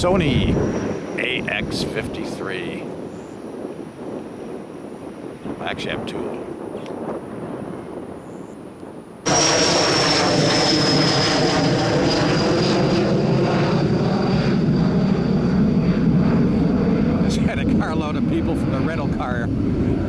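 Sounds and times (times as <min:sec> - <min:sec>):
jet airliner engine whine: 0:00.0 - 0:20.0.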